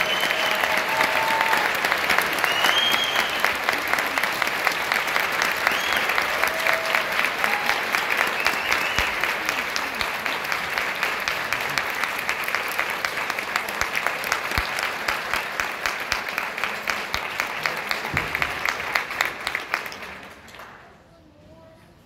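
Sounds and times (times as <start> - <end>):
audience applauding: 0.0 - 20.8.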